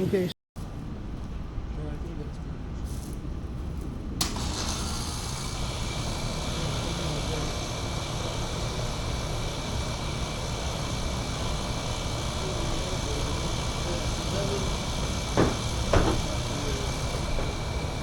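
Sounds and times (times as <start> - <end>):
air conditioner fan rushing: 0.6 - 18.0.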